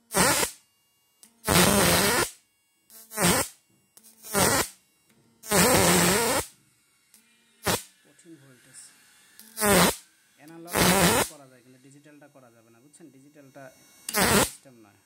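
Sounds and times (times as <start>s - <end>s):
electric arc buzzing: 0.0s - 15.0s.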